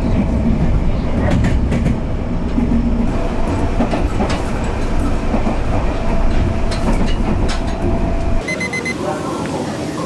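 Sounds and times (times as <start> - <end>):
train wheels rumbling on track: 0.0 - 8.4.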